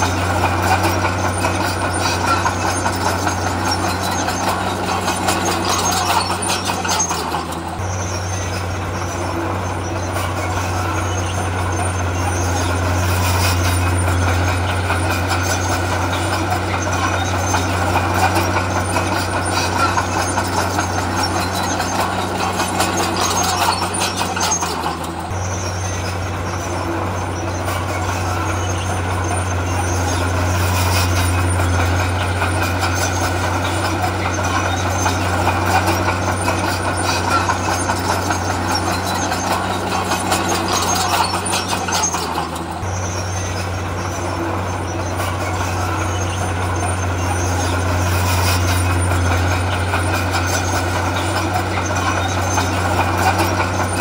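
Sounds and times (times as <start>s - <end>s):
diesel machinery engine drone: 0.0s - 54.0s
machinery rattles: 0.0s - 54.0s.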